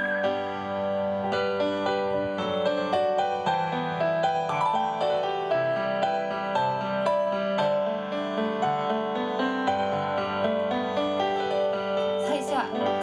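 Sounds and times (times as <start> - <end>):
electronic keyboard piano melody: 0.0 - 13.0.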